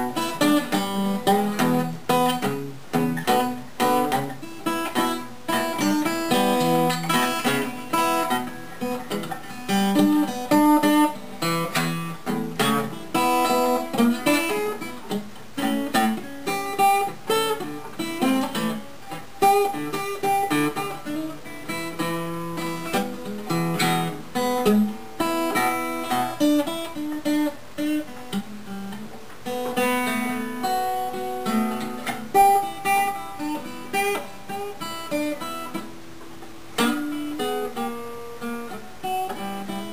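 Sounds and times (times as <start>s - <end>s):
acoustic guitar picking and strumming: 0.0s - 39.9s.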